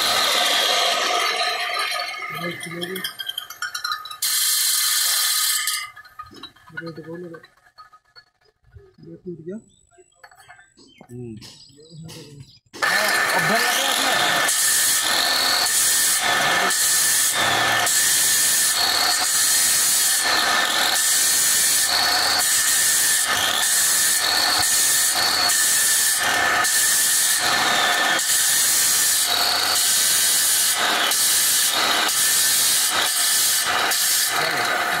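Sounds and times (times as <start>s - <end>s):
electric cutter whining: 0.0s - 5.8s, 12.7s - 35.0s.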